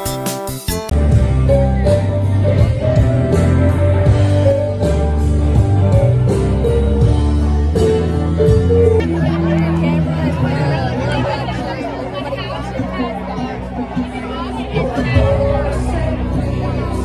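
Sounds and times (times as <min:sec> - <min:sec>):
country band playing through speakers: 0:00.0 - 0:17.0
heavy steady bass: 0:00.9 - 0:17.0.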